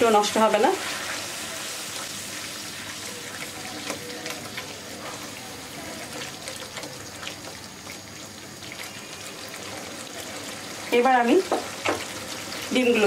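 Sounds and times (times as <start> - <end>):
masala sizzling and bubbling: 0.0 - 13.0.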